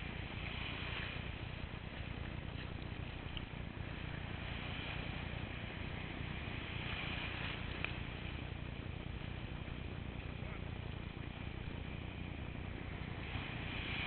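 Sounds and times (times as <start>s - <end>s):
low rumble: 0.0s - 14.0s
ocean surf breaking: 0.0s - 14.0s.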